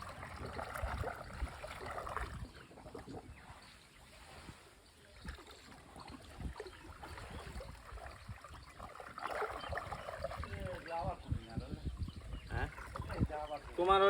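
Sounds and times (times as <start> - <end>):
river water lapping: 0.0 - 14.0
soft knocks and splashes: 0.0 - 14.0.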